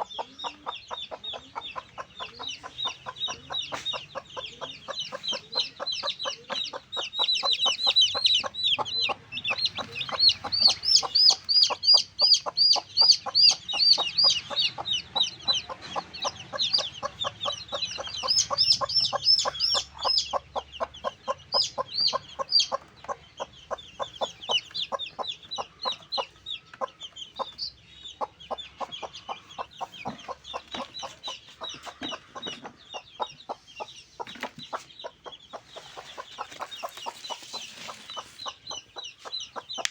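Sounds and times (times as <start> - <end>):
chickens clucking: 0.0 - 39.9
chickens peeping: 0.0 - 39.9.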